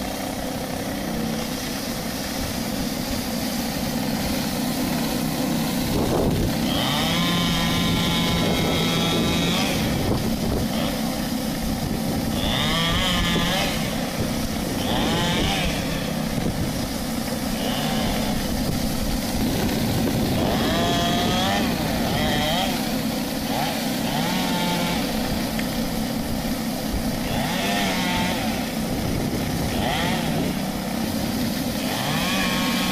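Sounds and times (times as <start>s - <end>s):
motor hum: 0.0s - 32.9s
water jets hissing on metal roof: 0.0s - 32.9s.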